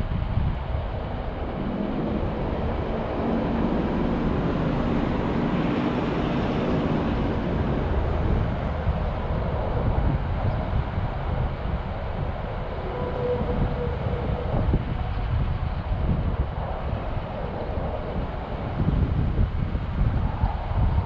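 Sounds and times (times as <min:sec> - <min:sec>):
traffic rumble: 0:00.0 - 0:21.0
wind buffeting microphone: 0:00.0 - 0:21.0.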